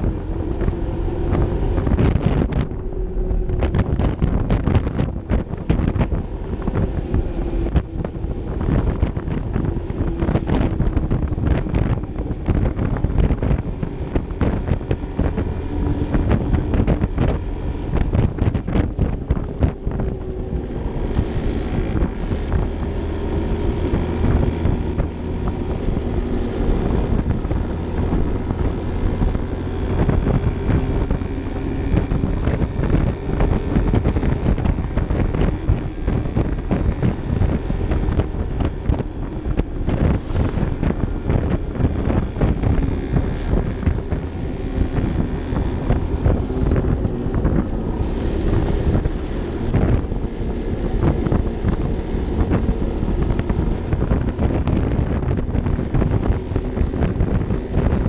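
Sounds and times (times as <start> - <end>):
scooter engine running: 0.0 - 58.0
wind buffeting microphone: 0.0 - 58.0.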